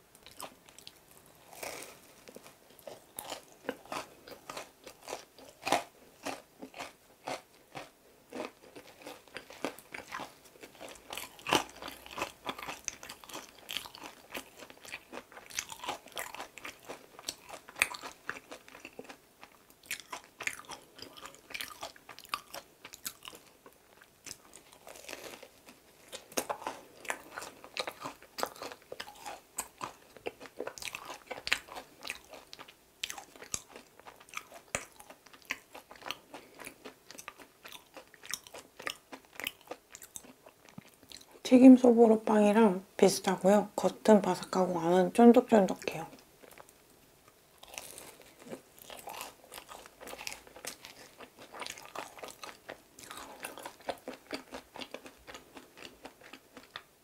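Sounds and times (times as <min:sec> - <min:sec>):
soft chewing: 0:00.1 - 0:41.5, 0:45.7 - 0:57.0
crunching crisp bread: 0:00.2 - 0:41.3, 0:47.6 - 0:56.9.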